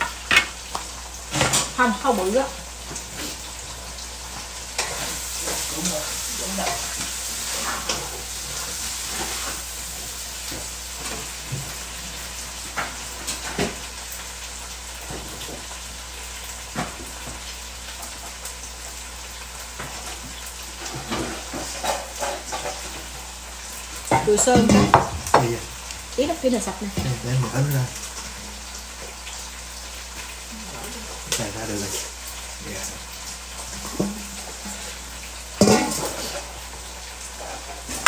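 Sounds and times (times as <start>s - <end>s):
food sizzling in a pan: 0.0s - 38.0s.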